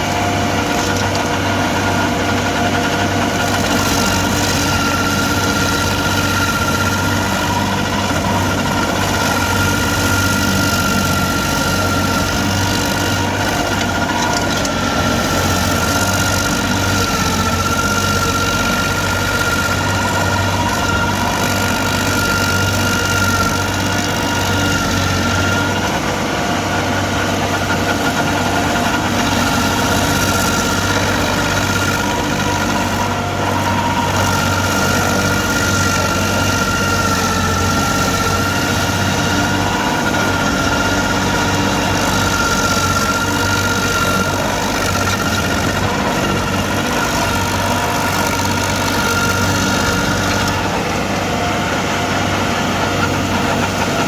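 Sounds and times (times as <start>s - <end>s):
stump grinder engine hum: 0.0s - 54.0s.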